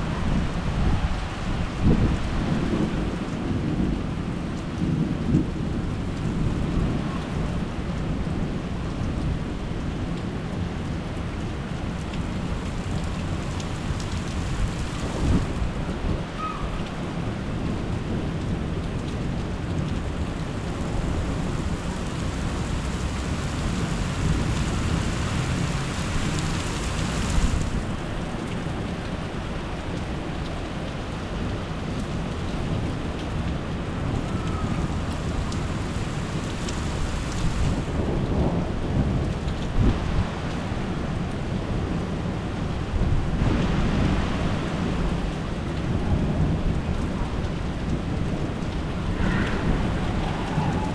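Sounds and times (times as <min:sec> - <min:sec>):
rain falling: 0:00.0 - 0:50.9
low rolling thunder: 0:00.2 - 0:09.5, 0:12.2 - 0:29.3, 0:31.4 - 0:40.3, 0:45.0 - 0:50.9.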